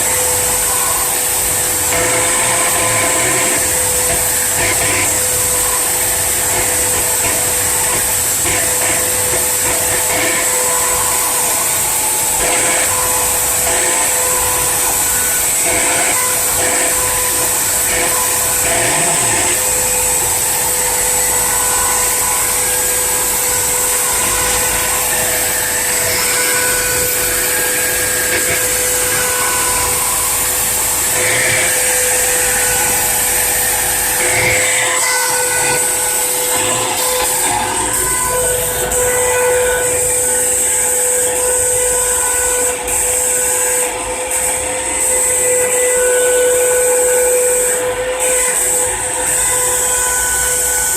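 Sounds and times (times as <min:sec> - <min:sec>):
spindle whining while cutting stone: 0:00.0 - 0:50.9.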